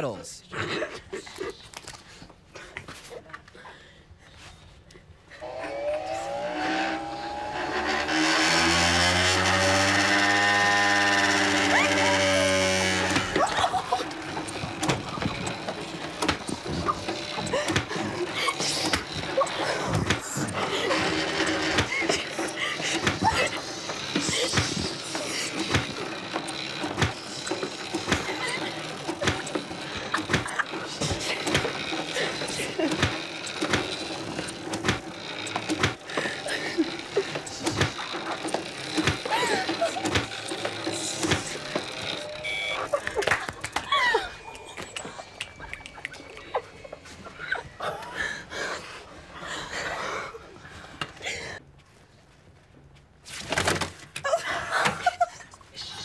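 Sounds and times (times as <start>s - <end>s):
ball machine wheel whine: 5.1s - 51.6s.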